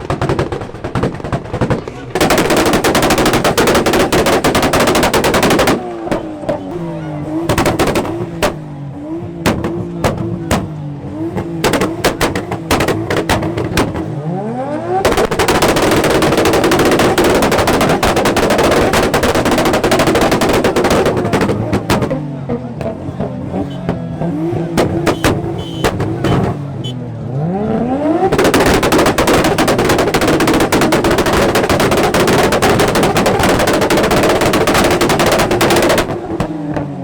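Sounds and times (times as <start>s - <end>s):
exhaust pops and bangs: 0.0s - 14.3s, 14.9s - 27.0s, 28.2s - 37.0s
car engine revving: 0.0s - 37.0s.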